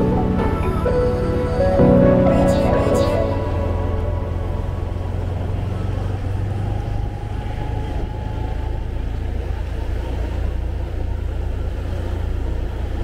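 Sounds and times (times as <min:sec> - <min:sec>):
motorbike engine rumble: 0:00.0 - 0:13.0
wind: 0:00.0 - 0:13.0.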